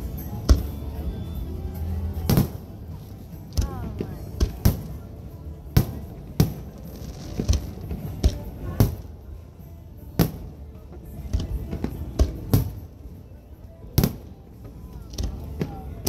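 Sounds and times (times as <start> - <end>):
soft fireworks pops: 0.0 - 1.2, 2.1 - 9.2, 10.2 - 13.1, 13.8 - 16.0.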